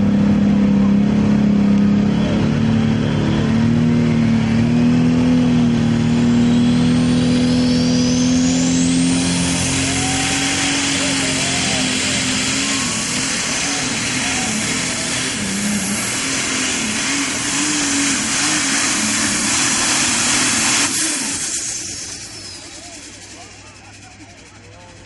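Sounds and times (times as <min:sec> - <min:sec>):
tractor engine at full power: 0:00.0 - 0:25.0
turbo whine: 0:00.0 - 0:25.0.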